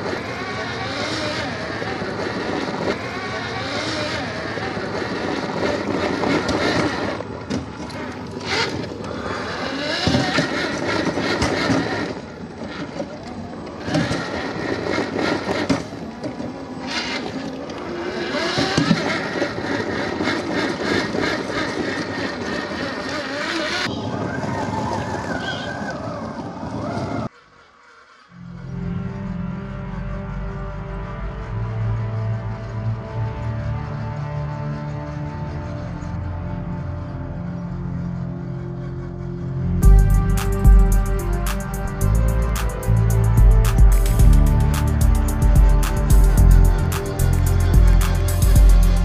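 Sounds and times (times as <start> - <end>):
rc car motors whining: 0.0 - 29.3, 32.0 - 49.0.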